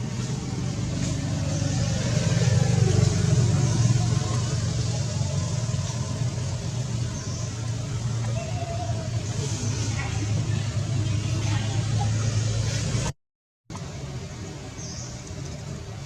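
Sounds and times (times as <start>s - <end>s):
vehicle engine passing by: 0.0s - 13.1s.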